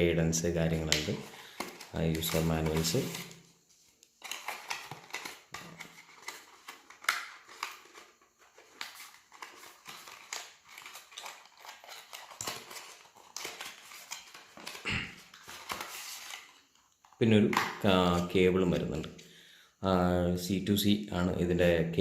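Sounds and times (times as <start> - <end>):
paper and cardboard rustling: 0.6 - 18.3.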